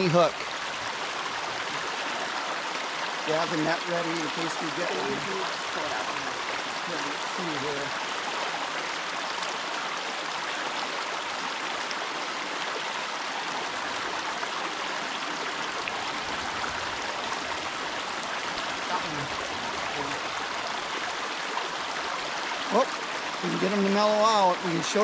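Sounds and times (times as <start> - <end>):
creek running over rocks: 0.0 - 25.0.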